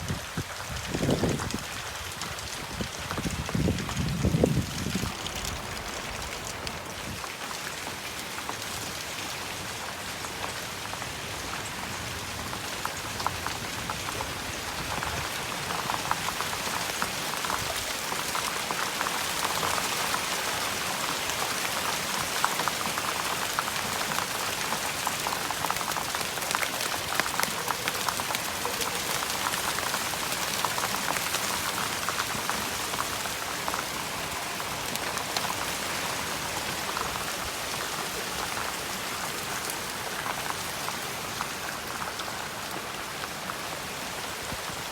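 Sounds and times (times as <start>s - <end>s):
hail and rain pelting plants: 0.0s - 44.9s.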